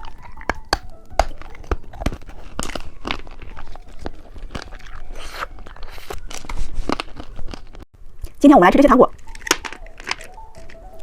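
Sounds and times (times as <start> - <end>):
plastic wrapper crinkling: 0.0 - 7.9, 9.1 - 11.0
candy crunching: 0.0 - 8.4, 9.1 - 11.0.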